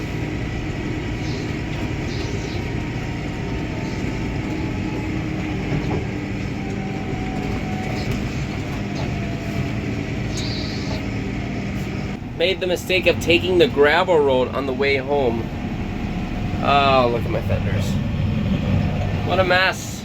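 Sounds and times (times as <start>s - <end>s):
vehicle rumbling on gravel: 0.0s - 20.0s.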